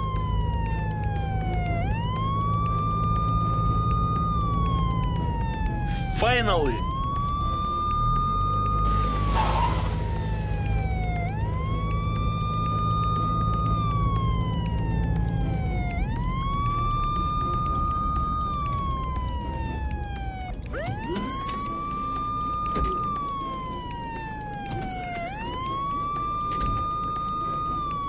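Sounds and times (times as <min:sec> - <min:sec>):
police siren wailing: 0:00.0 - 0:28.0.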